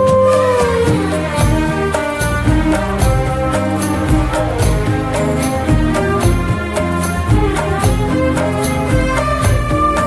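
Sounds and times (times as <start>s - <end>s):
song with steady beat: 0.0s - 10.0s.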